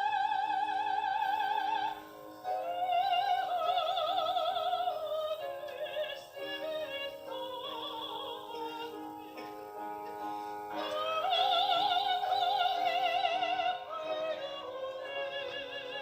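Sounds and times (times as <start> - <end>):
soprano singing operatic song: 0.0 - 16.0.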